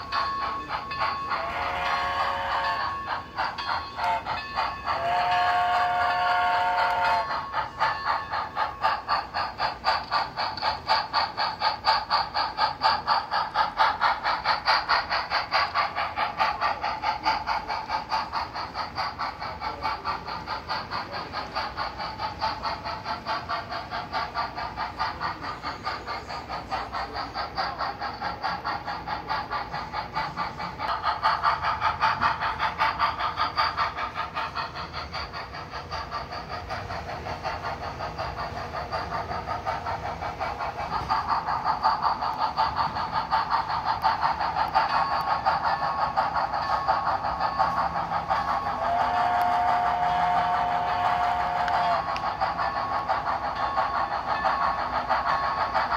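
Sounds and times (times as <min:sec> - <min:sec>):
model steam locomotive chuffing: 0:00.0 - 0:55.9.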